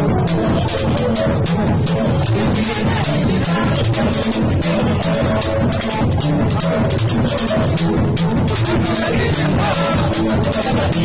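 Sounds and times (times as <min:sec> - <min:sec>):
loud live band music: 0:00.0 - 0:11.0.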